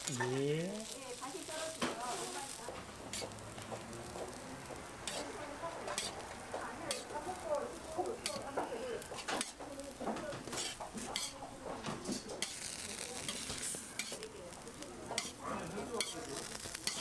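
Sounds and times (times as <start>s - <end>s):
patties sizzling on a griddle: 0.0s - 17.0s
metal spatula scraping griddle: 1.3s - 14.4s, 15.0s - 17.0s.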